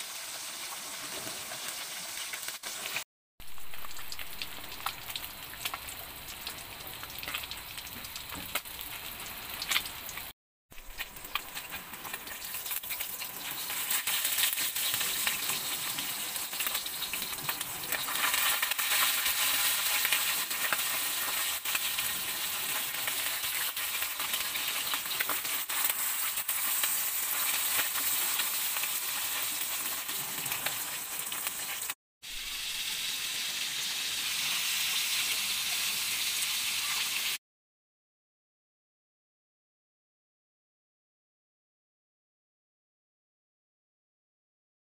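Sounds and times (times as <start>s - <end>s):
fish sizzling in hot oil: 0.0s - 37.4s.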